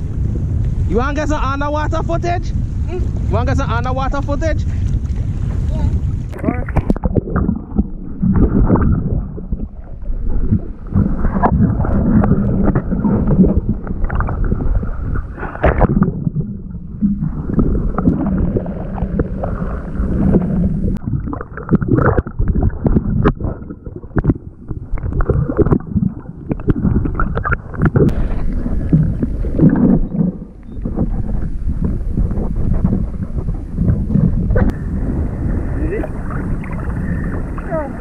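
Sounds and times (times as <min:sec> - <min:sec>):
water churning underwater: 0:00.0 - 0:38.0.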